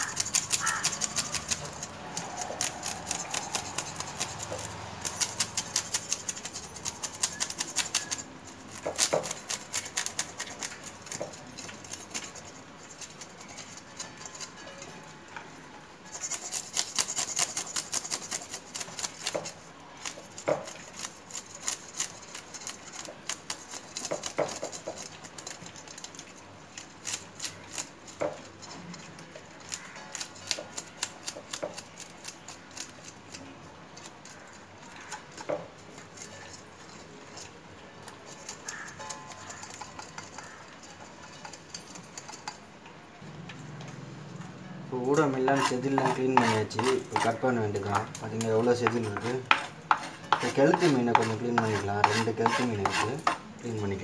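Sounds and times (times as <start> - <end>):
fish scales being scraped: 0.0 - 15.0, 16.0 - 42.7, 45.0 - 54.0.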